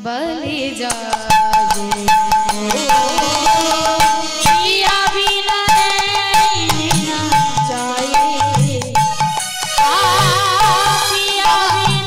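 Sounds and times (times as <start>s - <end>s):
hand drum beating: 0.5s - 12.0s
devotional ensemble melody: 1.1s - 12.0s.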